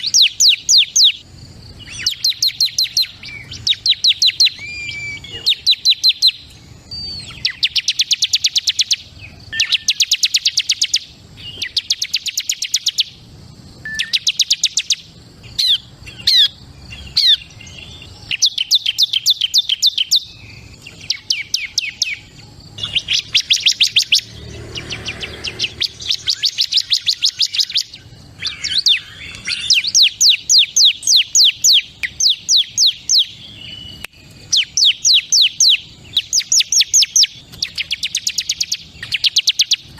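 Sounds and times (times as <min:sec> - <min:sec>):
bird singing rapid trills: 0:00.0 - 0:39.9.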